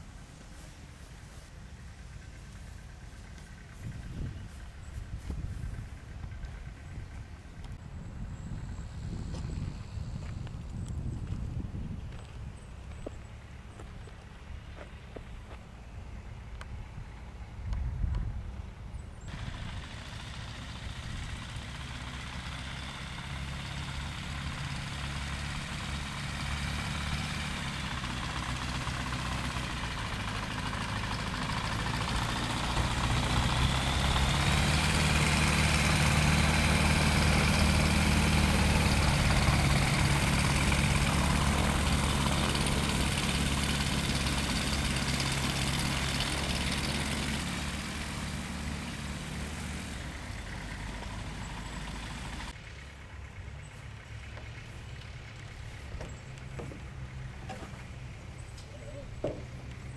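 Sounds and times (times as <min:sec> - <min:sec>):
propeller plane engine running: 0:00.0 - 0:59.9.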